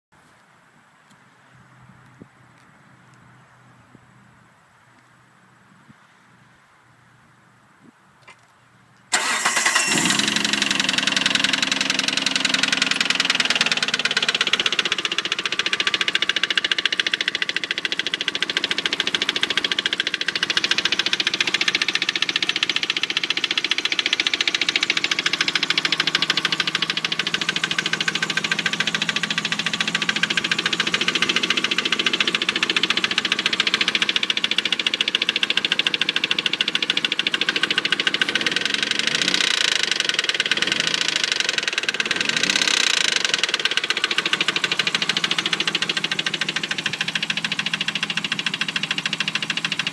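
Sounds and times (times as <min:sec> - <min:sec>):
car engine starting and idling: 0:09.1 - 0:49.9
engine knock: 0:09.2 - 0:49.9.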